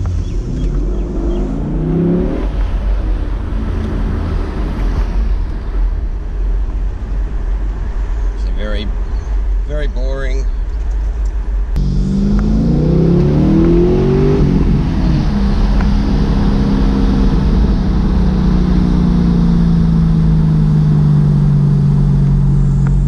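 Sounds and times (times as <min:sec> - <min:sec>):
car engine accelerating: 0:00.0 - 0:09.6, 0:11.6 - 0:23.0.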